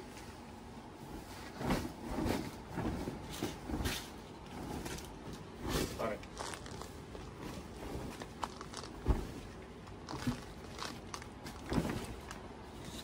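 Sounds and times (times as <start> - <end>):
bed sheet packaging rustling: 1.0 - 13.0.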